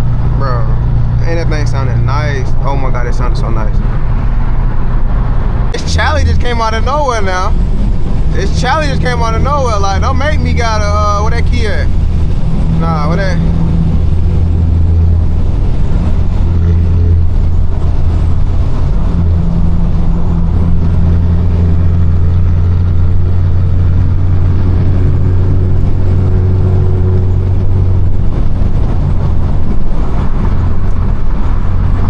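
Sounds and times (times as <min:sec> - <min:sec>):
car exhaust drone: 0:00.0 - 0:32.0.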